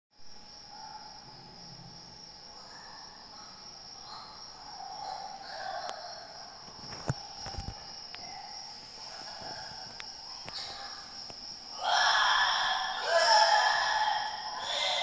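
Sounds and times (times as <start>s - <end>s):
high-pitched insect trill: 0.2s - 15.0s.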